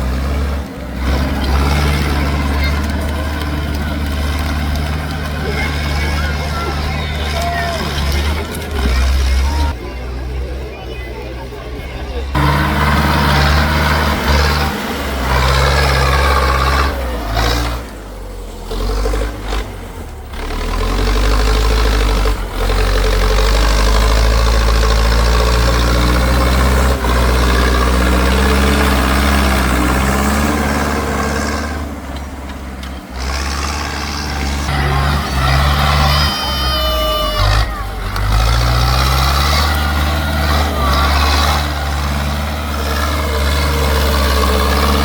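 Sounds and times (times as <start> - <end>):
tractor engine running hard: 0.0 - 45.0.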